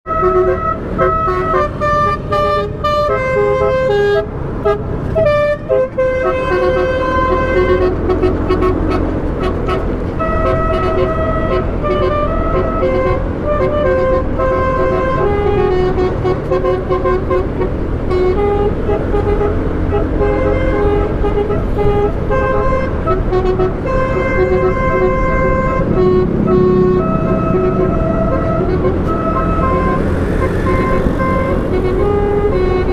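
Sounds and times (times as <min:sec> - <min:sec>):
road traffic rumble: 0:00.0 - 0:32.9
car horn playing melody: 0:00.1 - 0:32.9.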